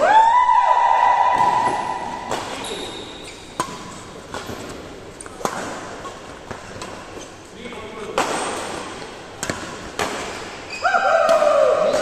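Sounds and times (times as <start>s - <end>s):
rackets hitting shuttlecock: 1.4s - 12.0s.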